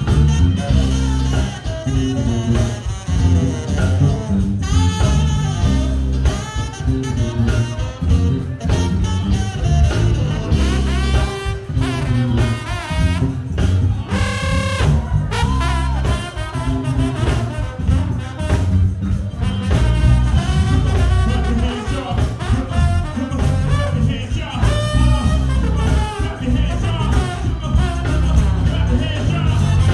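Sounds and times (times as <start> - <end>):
live band playing loud: 0.0 - 29.9
trombone: 0.0 - 29.9.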